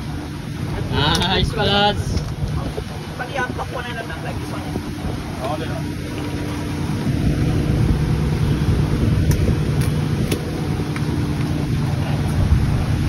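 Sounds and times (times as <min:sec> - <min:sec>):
boat engine hum: 0:00.0 - 0:13.0
wind on the microphone: 0:00.0 - 0:13.0.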